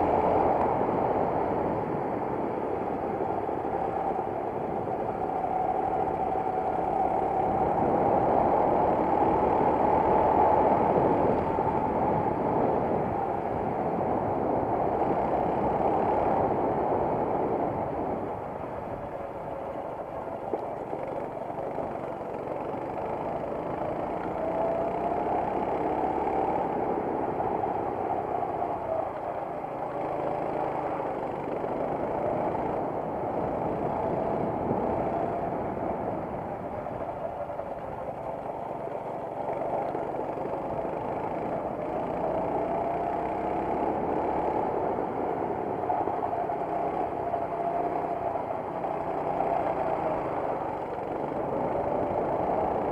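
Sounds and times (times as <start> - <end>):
racing kart engine: 0.0 - 52.9.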